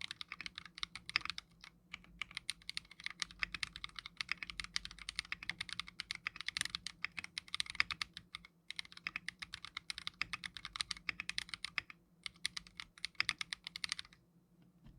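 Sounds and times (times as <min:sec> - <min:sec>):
fast mechanical keyboard typing: 0:00.0 - 0:14.2.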